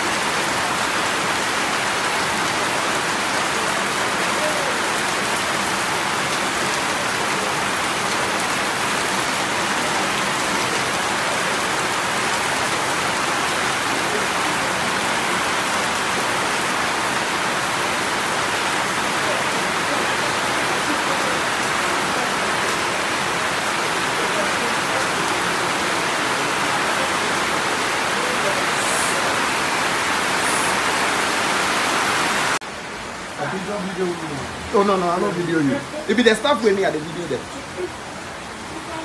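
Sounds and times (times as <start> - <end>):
heavy rain falling: 0.0 - 39.0
water streaming off eaves: 0.0 - 39.0.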